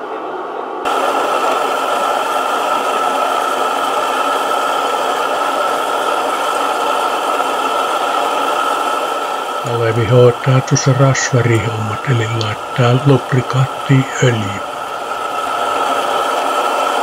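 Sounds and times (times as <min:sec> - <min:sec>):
burner rushing: 0:00.9 - 0:17.0.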